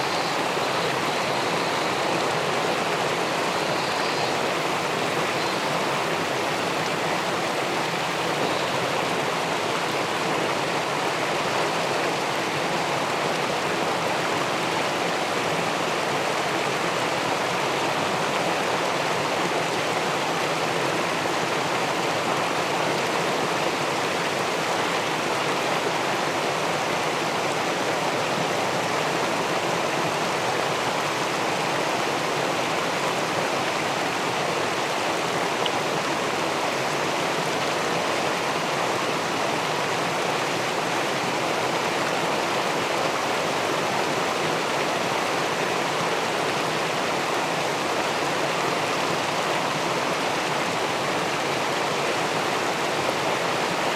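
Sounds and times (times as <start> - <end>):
water rushing over weir: 0.0 - 53.9.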